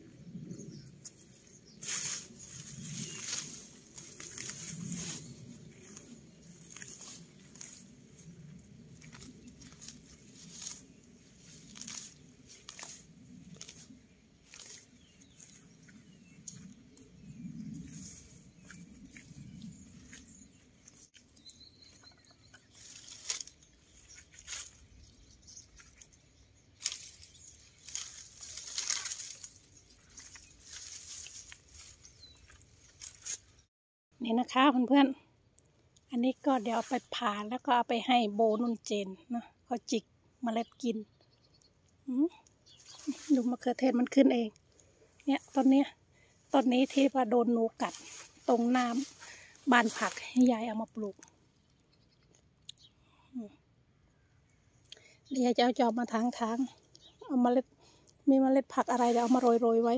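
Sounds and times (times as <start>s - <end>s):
dry vines rustling and crackling: 0.0s - 33.7s, 36.3s - 37.2s, 41.9s - 52.8s, 54.8s - 59.9s.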